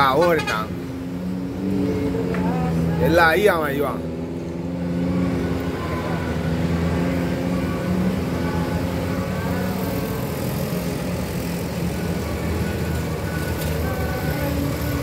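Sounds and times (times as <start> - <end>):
motorcycles and cars passing: 0.0 - 15.0.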